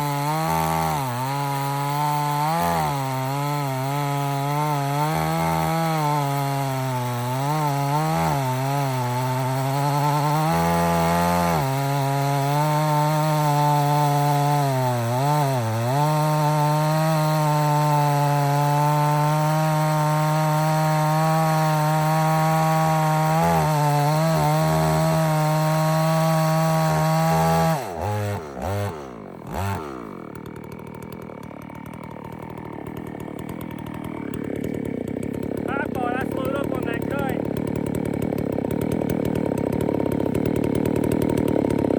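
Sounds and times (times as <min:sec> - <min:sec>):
chainsaw cutting wood: 0:00.0 - 0:41.9
chainsaw engine idling: 0:00.0 - 0:41.9.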